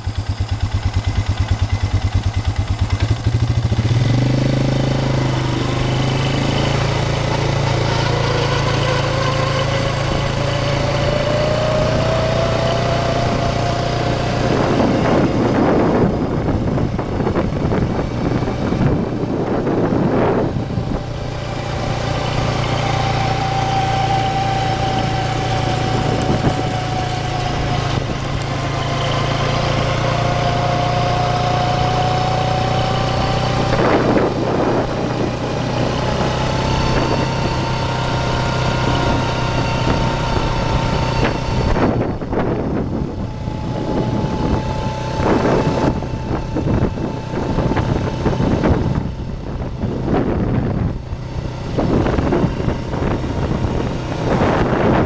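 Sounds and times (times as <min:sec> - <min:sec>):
rattles from rough road: 0:00.0 - 0:55.0
vehicle engine running: 0:00.0 - 0:55.0.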